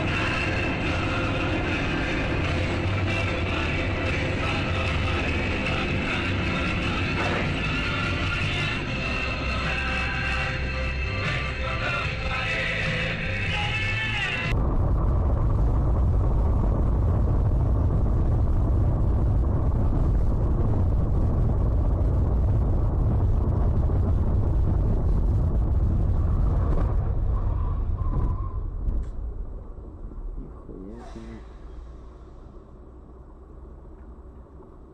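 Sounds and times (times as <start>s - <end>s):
vehicle and road rumble: 0.0s - 34.9s.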